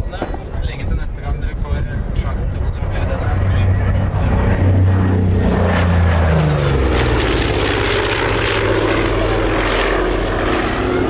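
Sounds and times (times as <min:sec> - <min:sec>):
propeller plane engines passing: 0:00.0 - 0:11.0.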